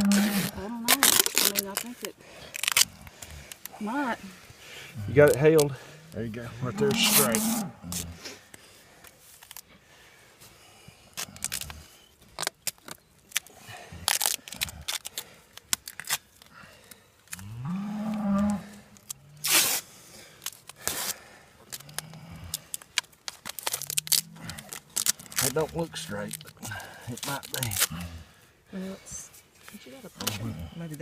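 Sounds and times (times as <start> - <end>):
crackling and rustling handling noises: 0.0 - 28.4.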